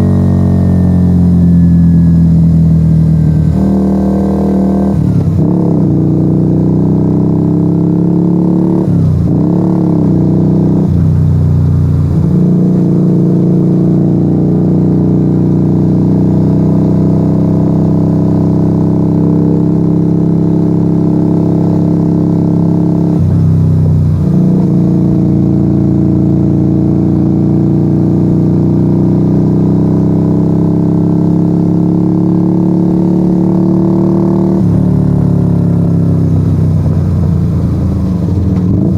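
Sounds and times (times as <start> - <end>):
loud motorcycle engine: 0.0 - 38.9.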